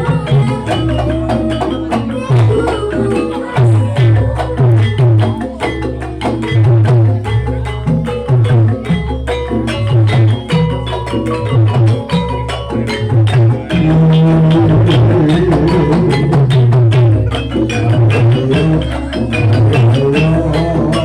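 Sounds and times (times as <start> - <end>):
deep drum pattern: 0.0 - 21.0
struck tuned percussion: 0.0 - 21.0.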